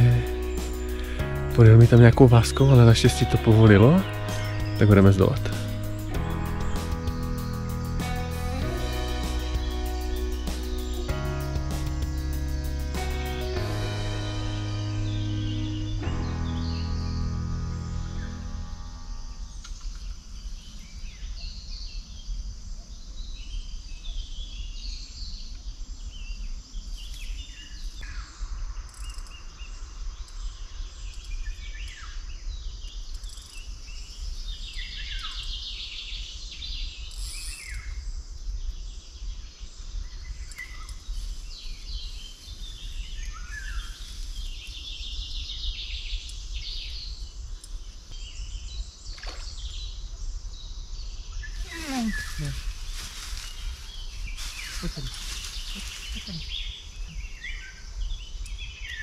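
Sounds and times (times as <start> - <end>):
birds chirping and trilling: 0.0 - 38.0, 38.6 - 59.0.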